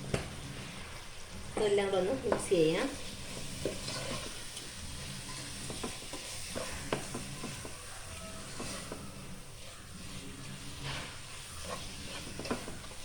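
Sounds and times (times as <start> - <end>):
low sizzle in a pan: 0.0 - 13.0
spoon scraping a pan: 0.0 - 13.0.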